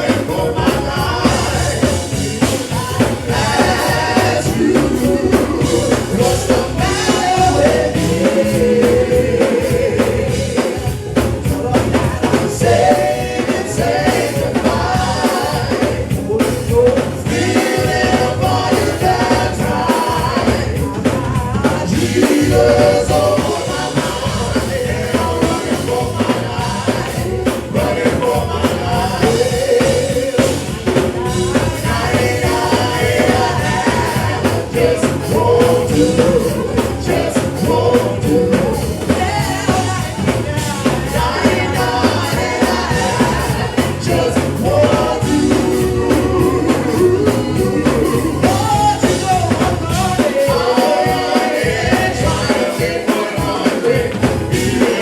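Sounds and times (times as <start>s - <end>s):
gospel band playing: 0.0s - 55.0s
person singing: 0.0s - 55.0s.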